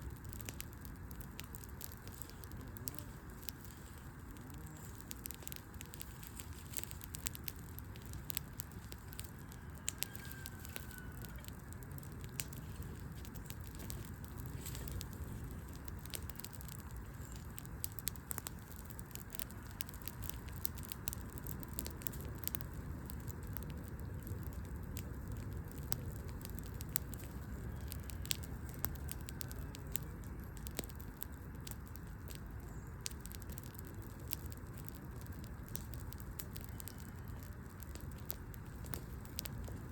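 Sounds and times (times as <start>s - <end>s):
burning wood popping: 0.0s - 39.9s
low rumble of flames: 0.0s - 39.9s
wood fire crackling: 0.0s - 39.9s.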